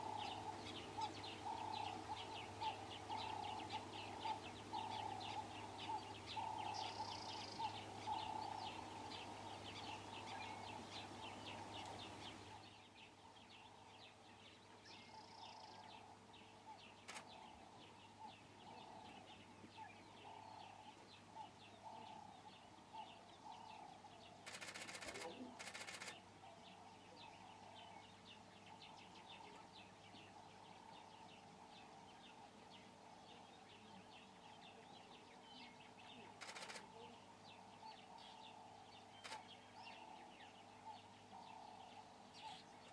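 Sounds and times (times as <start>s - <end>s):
bird calls with high chirping: 0.0s - 14.1s, 14.9s - 42.9s.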